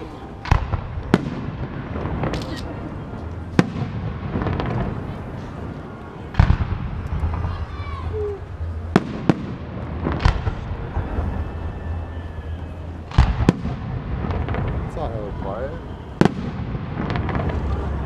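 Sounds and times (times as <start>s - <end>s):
crowd chatter: 0.0s - 18.0s
firework booms and bangs: 0.4s - 5.7s, 6.3s - 8.0s, 8.8s - 12.4s, 13.0s - 18.0s.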